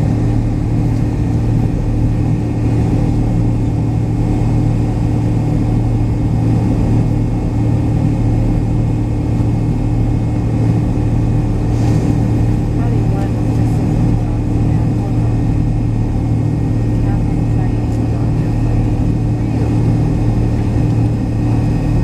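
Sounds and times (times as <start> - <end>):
airliner cabin hum: 0.0 - 22.0.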